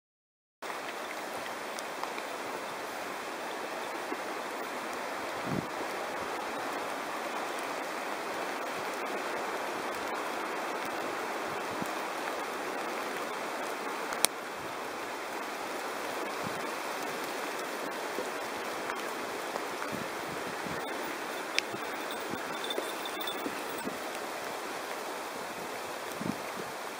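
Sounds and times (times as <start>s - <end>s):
river flowing over rocks: 0.7s - 26.9s.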